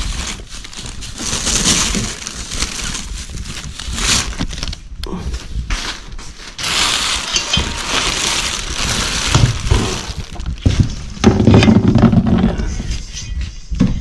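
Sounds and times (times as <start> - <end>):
rubbish rustling and crinkling: 0.0 - 13.1.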